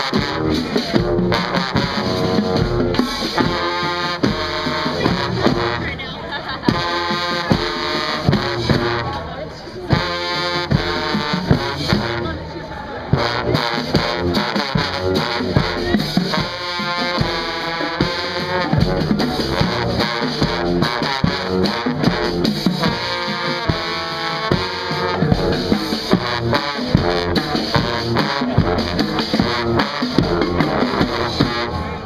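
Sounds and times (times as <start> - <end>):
driving drum kit: 0.0 - 9.3, 9.9 - 12.4, 13.1 - 32.0
band playing live music: 0.0 - 32.0.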